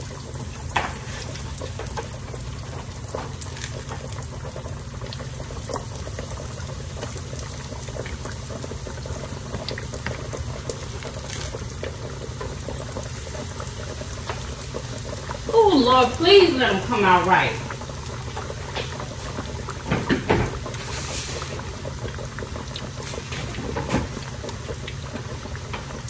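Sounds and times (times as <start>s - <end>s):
fish deep-frying in oil: 0.0s - 26.0s.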